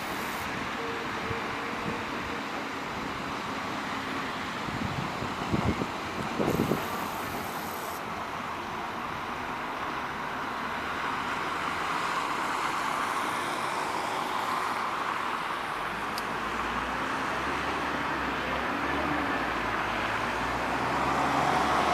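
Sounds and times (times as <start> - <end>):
tram rolling along track: 0.0 - 21.9.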